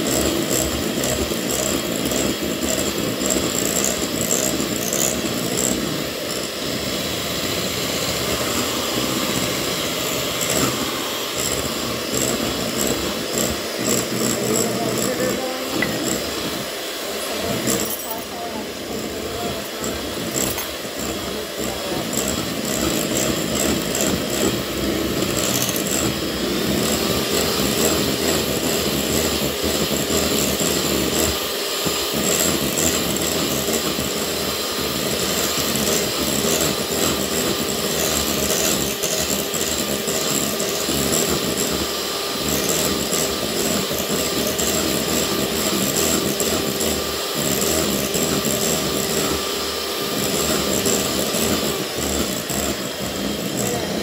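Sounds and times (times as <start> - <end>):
electric mixer whipping: 0.0 - 54.0.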